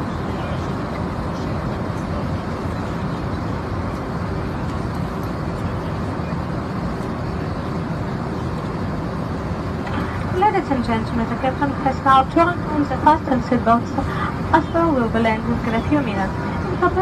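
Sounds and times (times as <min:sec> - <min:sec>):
airliner cabin rumble and hiss: 0:00.0 - 0:17.0.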